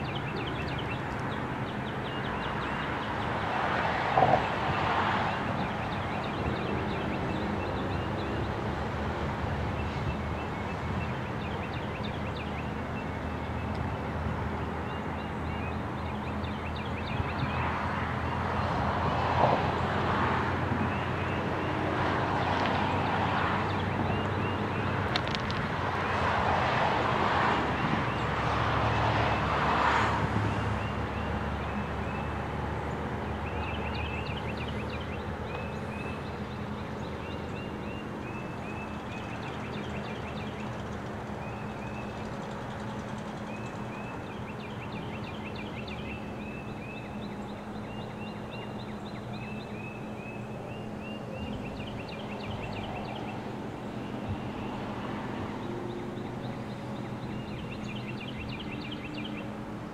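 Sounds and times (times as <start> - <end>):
birds chirping: 0.0 - 8.7, 9.6 - 25.7, 29.2 - 59.9
diesel engine hum: 0.0 - 59.9
wheel and rail noise: 0.0 - 59.9.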